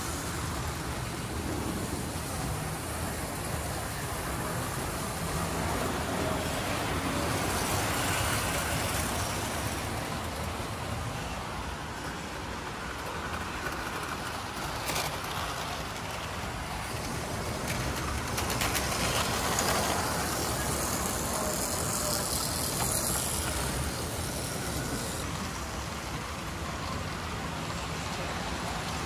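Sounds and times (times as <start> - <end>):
model trains running on track: 0.0 - 29.0.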